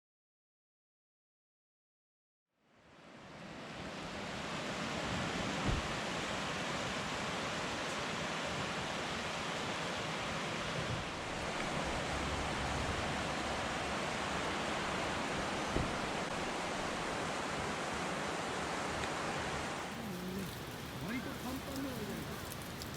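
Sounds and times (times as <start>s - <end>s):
steady rain hiss: 2.7s - 22.9s.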